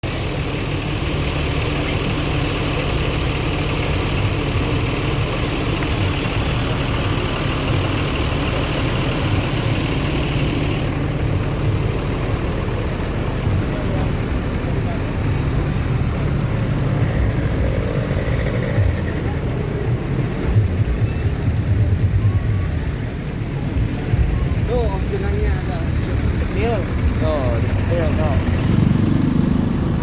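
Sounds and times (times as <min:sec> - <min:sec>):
bus engine idling: 0:00.0 - 0:30.0.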